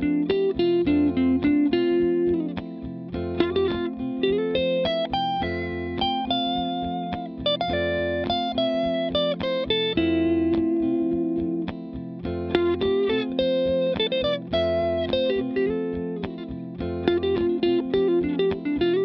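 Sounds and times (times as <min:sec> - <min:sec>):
electric guitar lead line: 0:00.0 - 0:19.0
sustained backing chord: 0:01.0 - 0:18.0.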